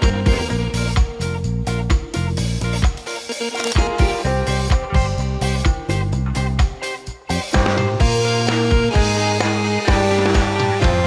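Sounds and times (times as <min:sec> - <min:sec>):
bass: 0:00.0 - 0:11.0
steel band playing: 0:00.0 - 0:11.0.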